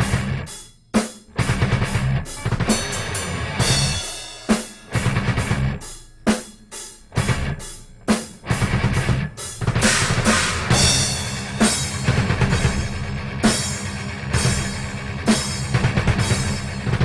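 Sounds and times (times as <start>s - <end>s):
metal drum kit playing: 0.0s - 17.0s.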